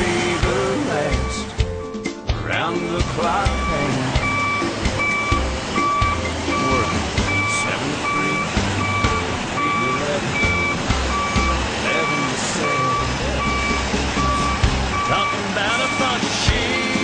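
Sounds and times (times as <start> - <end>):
truck diesel engine running: 0.0 - 17.0
back-up alarm beeping: 0.5 - 16.6.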